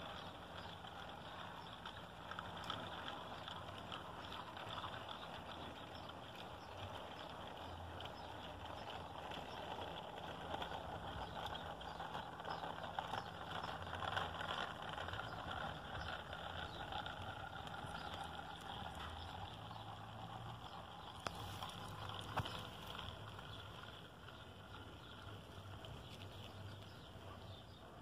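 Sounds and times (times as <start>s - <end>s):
model train wheels rattling: 0.0s - 28.0s.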